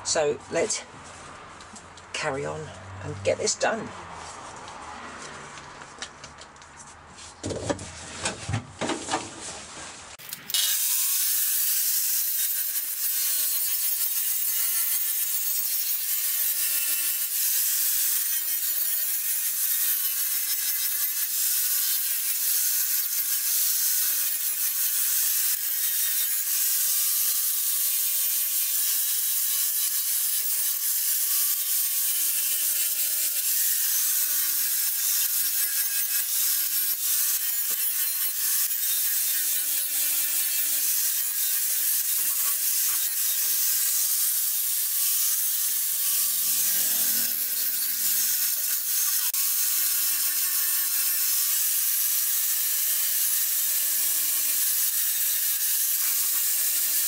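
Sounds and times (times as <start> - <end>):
angle grinder grinding metal: 10.2 - 57.0.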